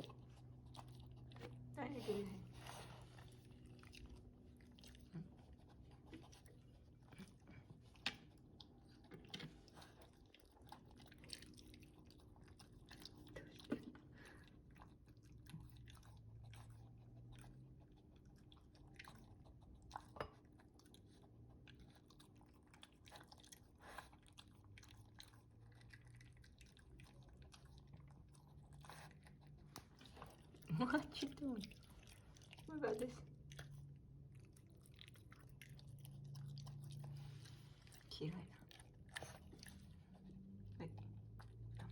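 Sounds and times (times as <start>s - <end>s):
dog chewing and eating: 0.0s - 41.9s.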